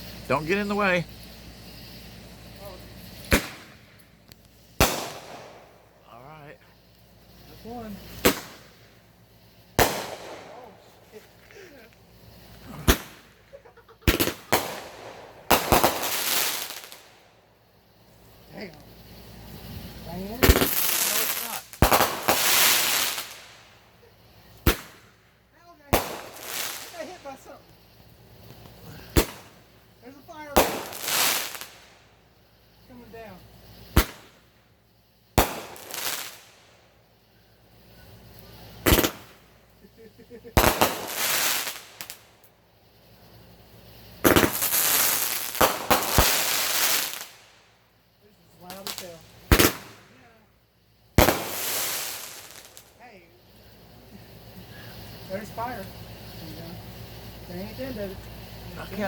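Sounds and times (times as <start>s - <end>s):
fireworks bangs: 0.0s - 34.7s, 35.3s - 42.5s, 43.1s - 47.8s, 48.5s - 50.4s, 51.1s - 59.0s
fireworks crackling spray: 0.0s - 59.0s.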